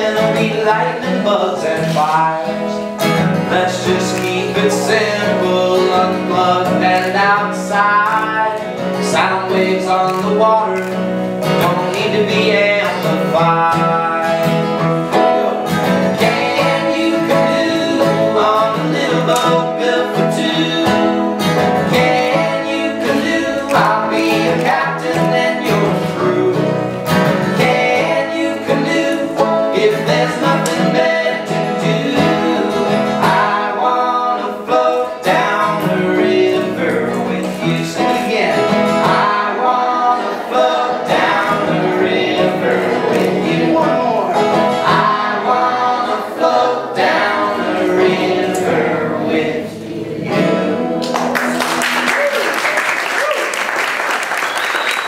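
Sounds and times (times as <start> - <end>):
banjo: 0.0 - 51.0
acoustic guitar: 0.0 - 55.0.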